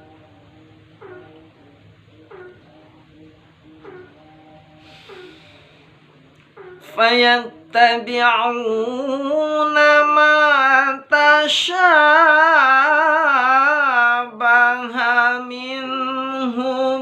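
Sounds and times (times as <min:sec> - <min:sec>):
melodic religious recitation: 0:00.0 - 0:17.0.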